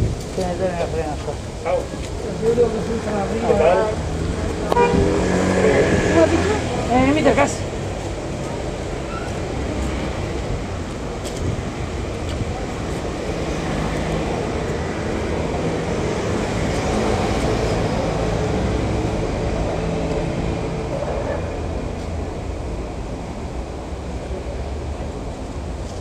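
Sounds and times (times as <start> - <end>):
moving vehicle rumble: 0.0 - 26.0.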